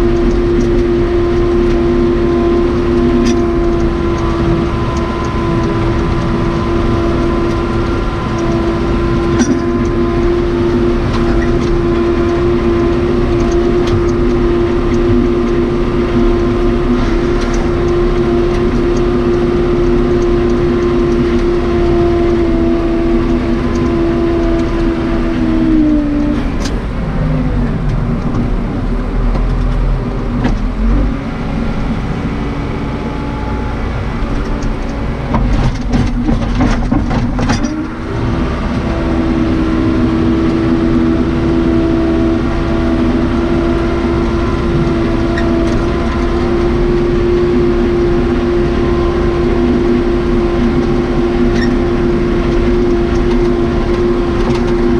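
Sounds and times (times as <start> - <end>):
backhoe diesel engine revving: 0.0 - 54.9.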